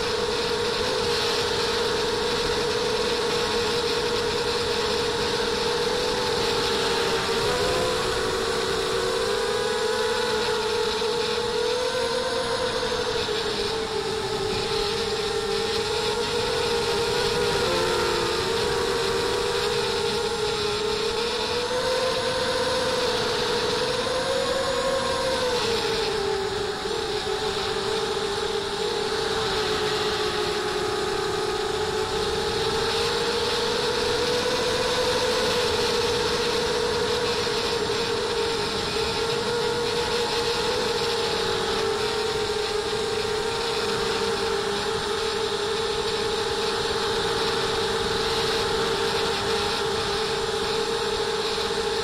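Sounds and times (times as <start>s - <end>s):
quadcopter motors whining: 0.0s - 52.0s.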